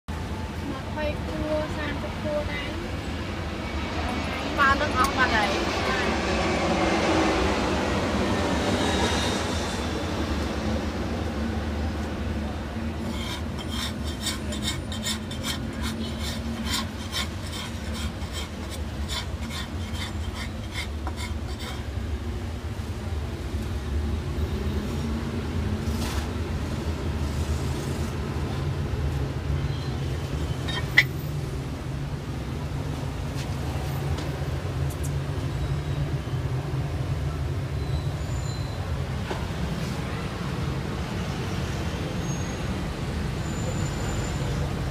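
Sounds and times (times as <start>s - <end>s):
road traffic rumble: 0.1s - 44.9s.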